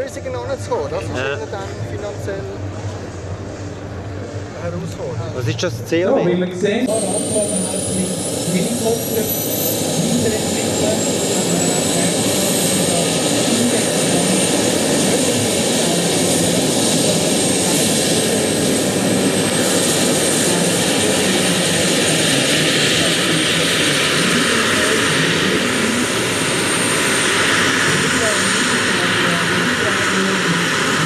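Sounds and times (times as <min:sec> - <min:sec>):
helicopter rotor rush: 0:00.0 - 0:31.0
high turbine whine: 0:00.0 - 0:31.0.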